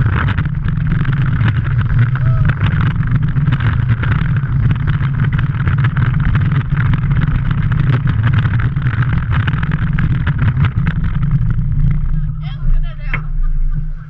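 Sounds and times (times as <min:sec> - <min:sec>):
quick clicks and rattles: 0:00.0 - 0:12.2
roller coaster wheels rumbling on rail: 0:00.0 - 0:14.0
wind rushing over microphone: 0:00.0 - 0:14.0.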